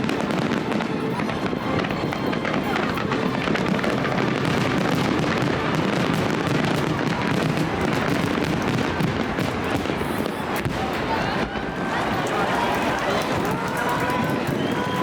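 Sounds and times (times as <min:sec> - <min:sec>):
crowd voices: 0:00.0 - 0:15.0
fireworks barrage: 0:00.0 - 0:15.0.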